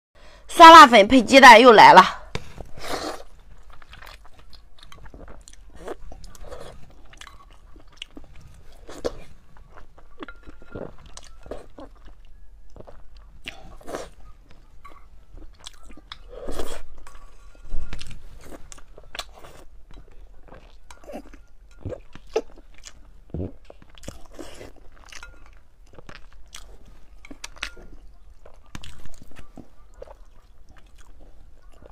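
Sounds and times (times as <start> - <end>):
slurping and chewing noodles: 2.6 - 31.9.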